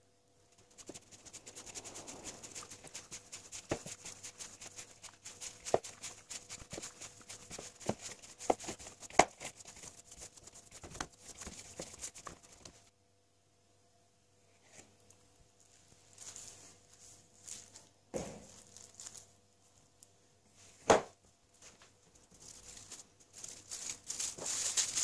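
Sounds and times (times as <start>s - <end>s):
hand kneading crumbly dough: 0.5s - 12.9s, 15.7s - 20.8s, 21.6s - 25.0s.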